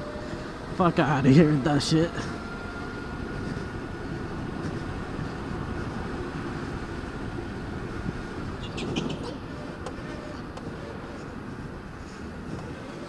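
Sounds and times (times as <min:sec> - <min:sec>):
go-kart chassis and tyres rumbling: 0:00.0 - 0:13.0.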